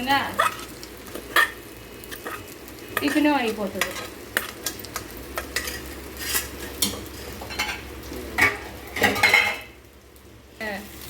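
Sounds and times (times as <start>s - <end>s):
frying sizzle: 0.0s - 11.0s
metal spoon scraping a pan: 0.3s - 9.7s.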